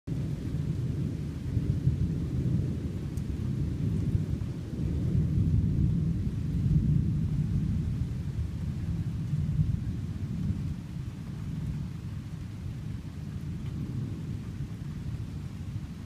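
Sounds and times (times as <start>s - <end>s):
thunder rumbling: 0.1s - 16.0s.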